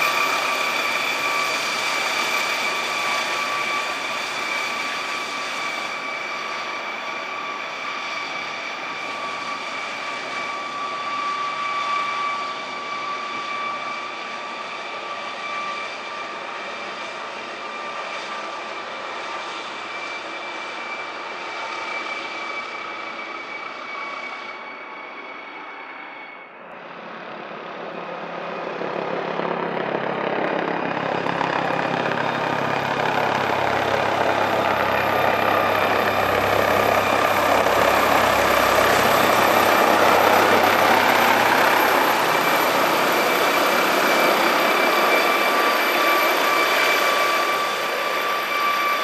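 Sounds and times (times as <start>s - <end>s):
helicopter rotor noise: 0.0s - 49.0s
high turbine whine: 0.0s - 49.0s.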